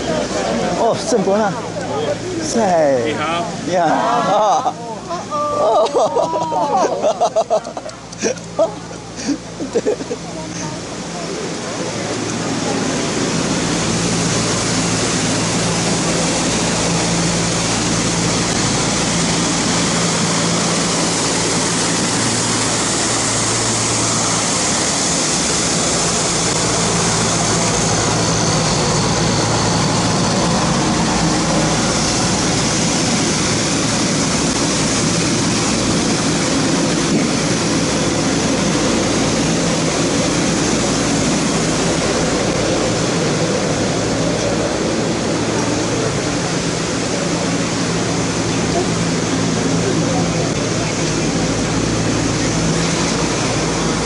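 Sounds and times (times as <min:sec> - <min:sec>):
street sweeper mechanical rush: 0:00.0 - 0:54.0
low hum: 0:05.1 - 0:54.0.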